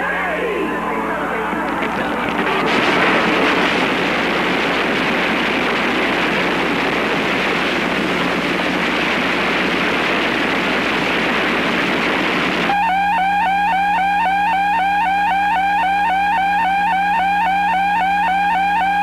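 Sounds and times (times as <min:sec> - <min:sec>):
broadcast static hiss: 0:00.0 - 0:19.0
low hum: 0:00.0 - 0:19.0.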